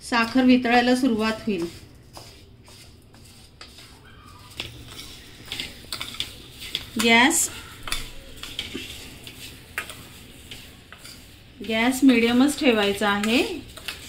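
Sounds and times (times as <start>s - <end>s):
spoon scraping metal pan: 0.1s - 14.0s.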